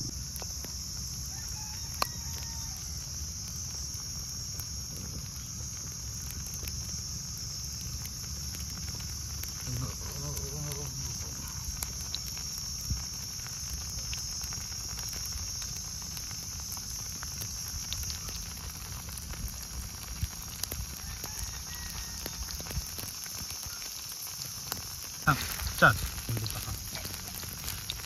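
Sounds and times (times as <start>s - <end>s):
batter sizzling in a hot pan: 0.0s - 28.0s
oil popping and crackling: 0.0s - 28.0s.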